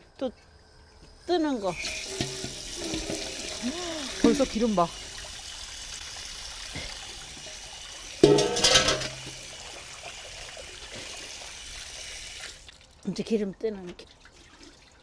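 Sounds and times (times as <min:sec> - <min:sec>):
broth boiling and bubbling: 0:00.6 - 0:15.0.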